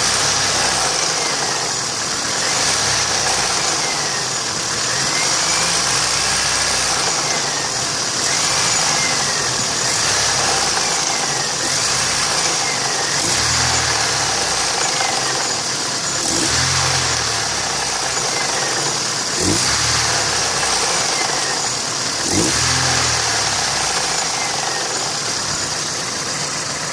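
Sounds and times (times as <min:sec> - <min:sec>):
knocking petrol engine revving: 0:00.0 - 0:26.9.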